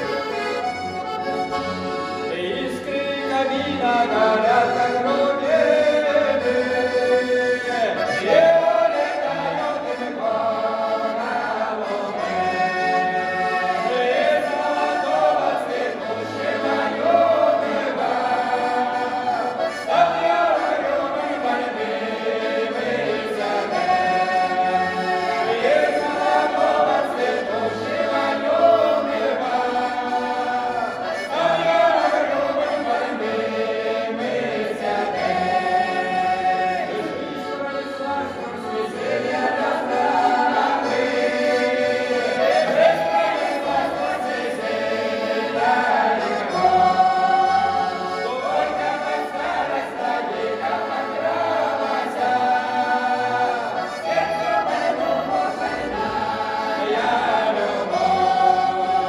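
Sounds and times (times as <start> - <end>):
folk choir singing: 0.0 - 59.0.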